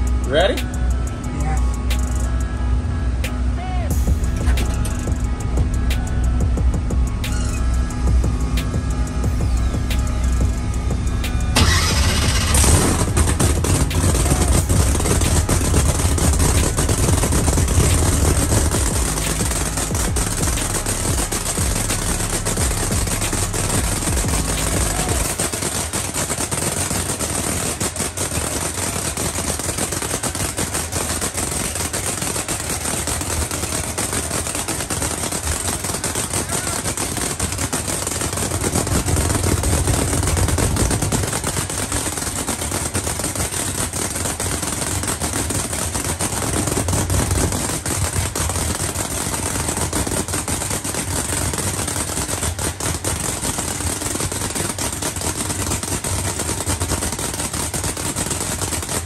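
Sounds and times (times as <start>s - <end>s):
race car engine crackling: 0.0s - 2.6s, 3.2s - 59.0s.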